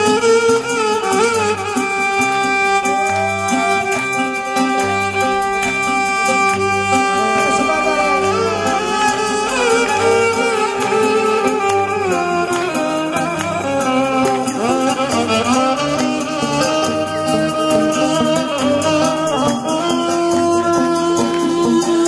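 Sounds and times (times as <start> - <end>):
folk dance band music: 0.0 - 22.0
violin melody: 0.0 - 22.0.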